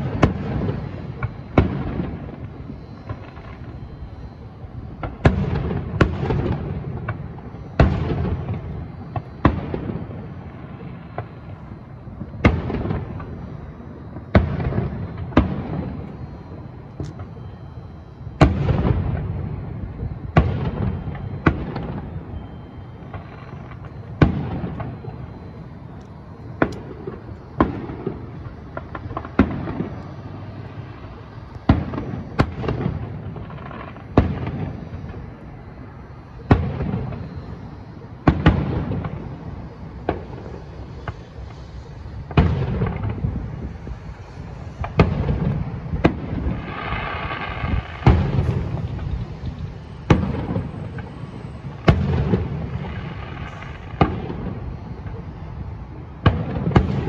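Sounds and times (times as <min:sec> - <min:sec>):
fireworks bursting with echo: 0:00.0 - 0:57.0.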